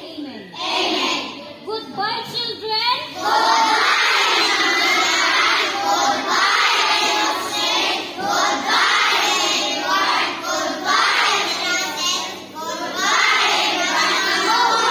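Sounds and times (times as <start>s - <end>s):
children singing together: 0.6s - 1.6s, 3.1s - 14.9s.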